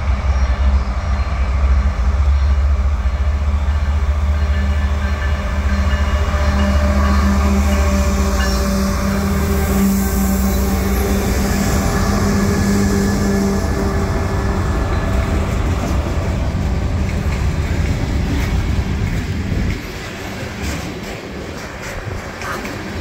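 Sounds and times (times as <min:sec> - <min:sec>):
diesel locomotive engines droning: 0:00.0 - 0:23.0
freight cars rumbling on rails: 0:00.0 - 0:23.0.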